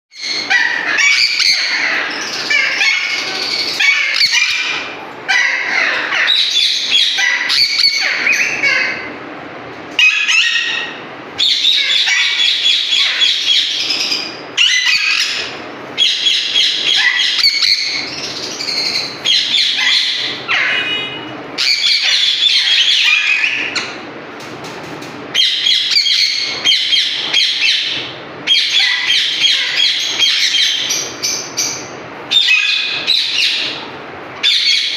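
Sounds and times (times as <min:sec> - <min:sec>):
parakeets calling: 0:00.1 - 0:09.3, 0:09.9 - 0:24.1, 0:24.9 - 0:34.9.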